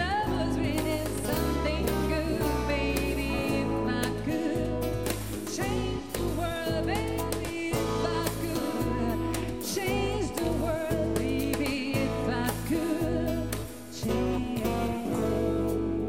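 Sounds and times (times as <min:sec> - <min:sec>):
woman singing with vibrato: 0:00.0 - 0:15.6
percussion: 0:00.0 - 0:15.8
piano: 0:00.0 - 0:16.0.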